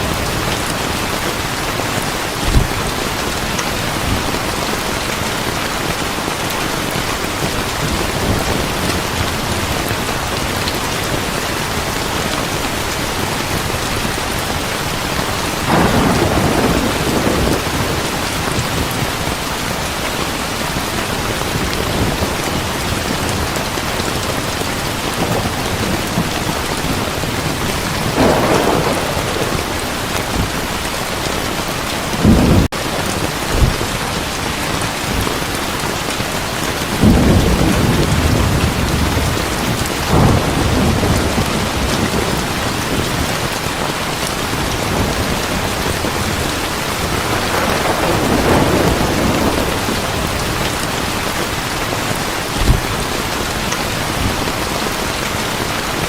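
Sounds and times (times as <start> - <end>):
thunder rumbling: 0.0 - 20.0, 20.7 - 35.5, 36.9 - 55.1
heavy rain: 0.0 - 56.0.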